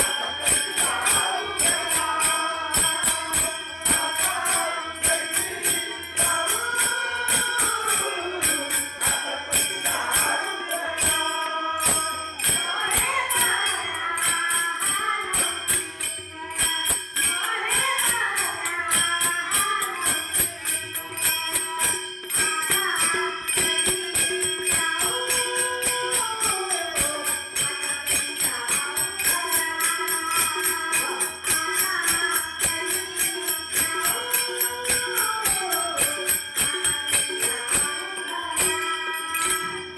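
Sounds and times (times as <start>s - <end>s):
jingling hand percussion: 0.0s - 39.9s
women singing devotional song: 0.0s - 39.9s.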